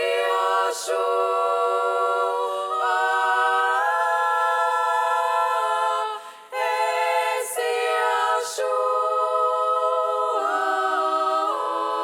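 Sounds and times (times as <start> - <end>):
vocal ensemble singing a cappella: 0.0 - 12.0.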